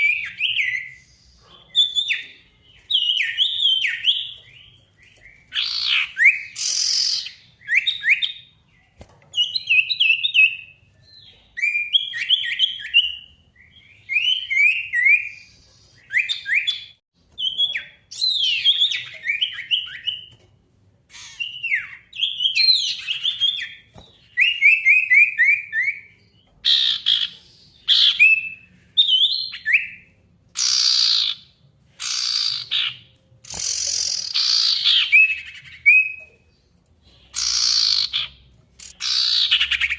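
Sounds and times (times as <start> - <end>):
bird whistled song: 0.0 - 8.6, 9.3 - 20.4, 21.1 - 39.9.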